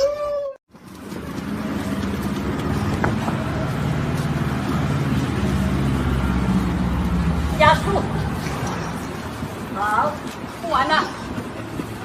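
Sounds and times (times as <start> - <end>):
car engine and road drone: 0.7 - 10.6.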